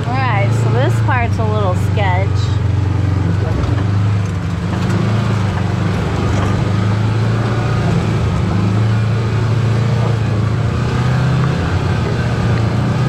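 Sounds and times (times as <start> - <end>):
engine running low: 0.0 - 13.0.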